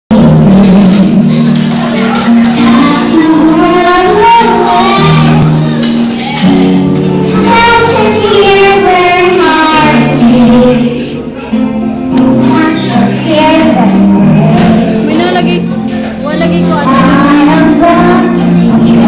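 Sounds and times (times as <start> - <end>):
backing music: 0.1 - 19.0
girl singing into microphone: 2.2 - 15.7, 16.3 - 19.0.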